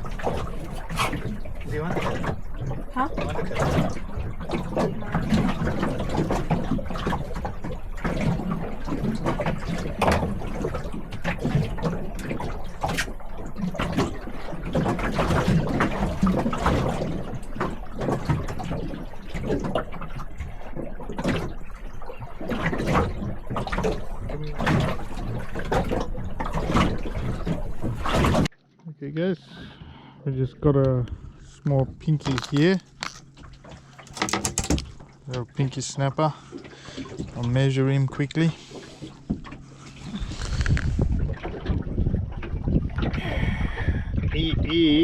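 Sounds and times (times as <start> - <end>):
water splashing against boat hull: 0.0 - 28.6, 30.7 - 45.0.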